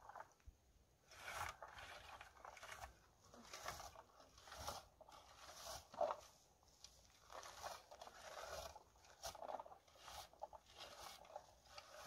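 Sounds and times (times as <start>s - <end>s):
plastic rake scraping: 1.0s - 12.0s.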